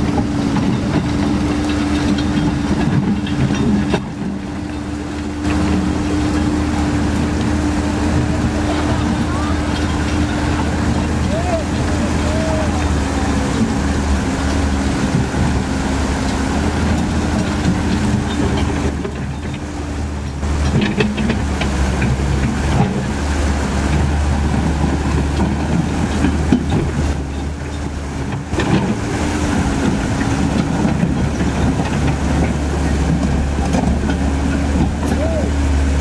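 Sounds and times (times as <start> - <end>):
crawler tracks clanking over stones: 0.0 - 36.0
excavator diesel engine running: 0.0 - 36.0.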